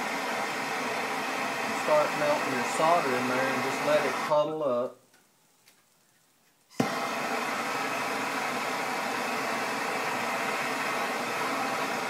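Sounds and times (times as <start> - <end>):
gas torch hissing: 0.0 - 4.6, 6.7 - 12.0.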